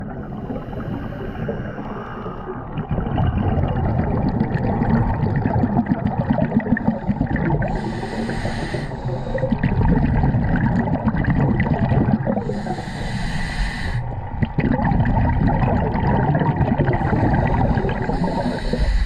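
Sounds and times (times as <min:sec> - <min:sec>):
water bubbling and gurgling: 0:00.0 - 0:19.0.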